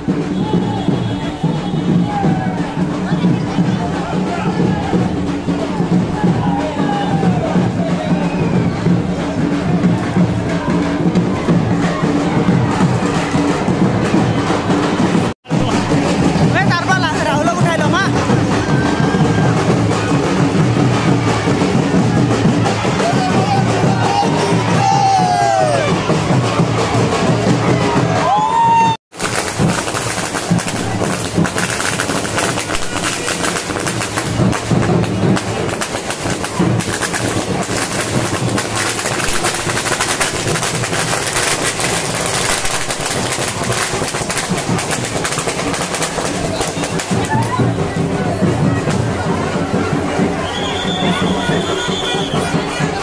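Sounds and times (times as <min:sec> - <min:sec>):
crowd: 0:00.0 - 0:53.0
drum-driven procession music: 0:00.0 - 0:53.0
firecrackers crackling: 0:00.0 - 0:53.0.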